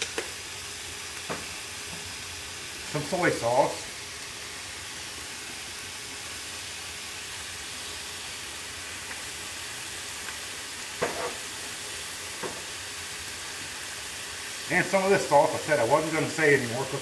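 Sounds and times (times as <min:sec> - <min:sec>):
vegetables sizzling on griddle: 0:00.0 - 0:17.0.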